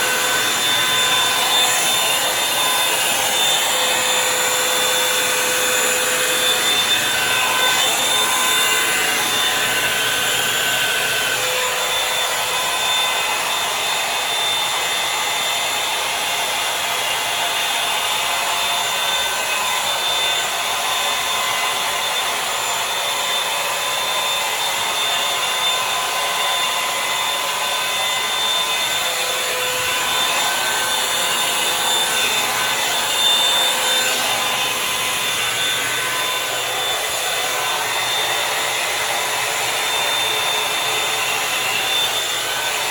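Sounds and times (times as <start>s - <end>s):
hair dryer brush running: 0.0s - 42.9s.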